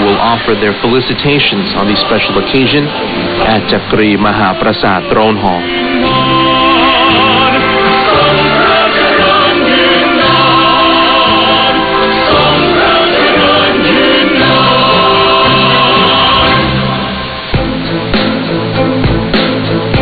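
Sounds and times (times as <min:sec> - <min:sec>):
choral music over shortwave radio: 0:00.0 - 0:20.0.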